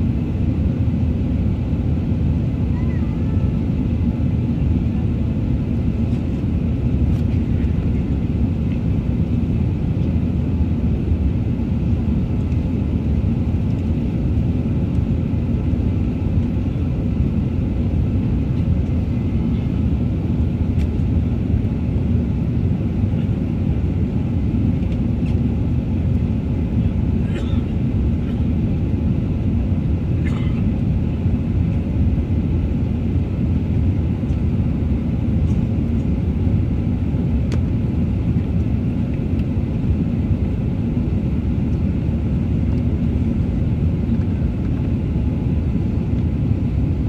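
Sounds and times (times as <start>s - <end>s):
airplane cabin engine rumble: 0.0s - 47.0s.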